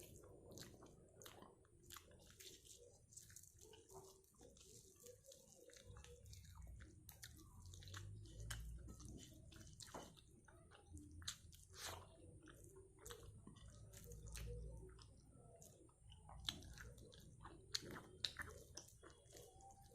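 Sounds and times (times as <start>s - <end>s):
person chewing food: 0.0s - 19.9s.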